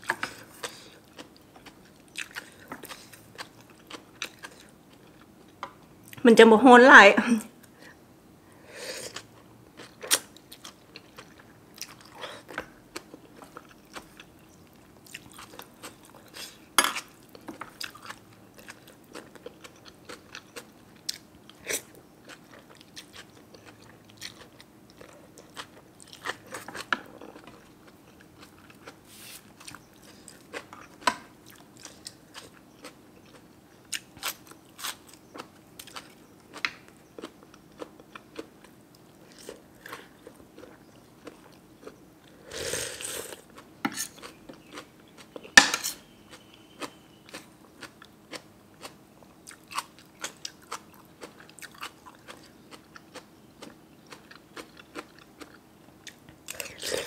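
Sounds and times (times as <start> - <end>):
person chewing crunchy food: 0.0 - 6.2, 9.0 - 57.0.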